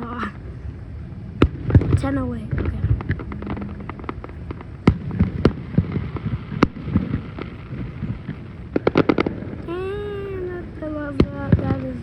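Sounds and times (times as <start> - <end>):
distant fireworks bangs: 0.0 - 12.0
steady low rumble: 0.0 - 12.0.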